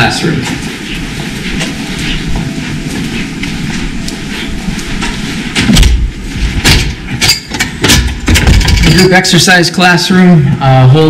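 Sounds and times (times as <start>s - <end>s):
handheld camera rumbling: 0.2s - 9.3s.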